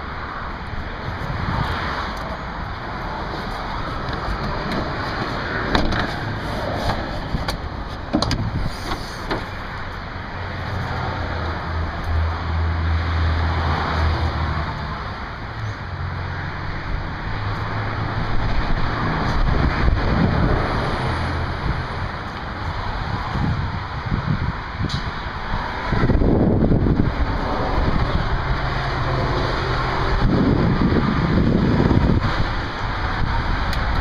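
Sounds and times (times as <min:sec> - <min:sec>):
pickup engine rumbling: 0:00.0 - 0:34.0.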